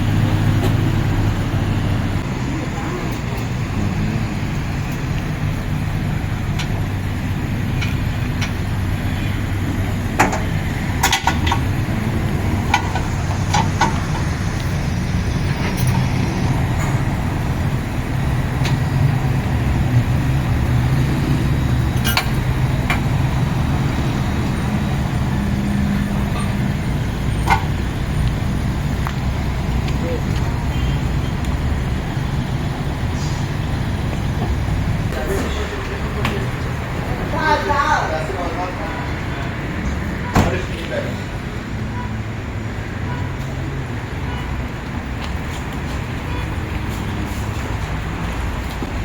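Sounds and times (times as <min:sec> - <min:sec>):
vehicle engine humming: 0:00.0 - 0:49.0.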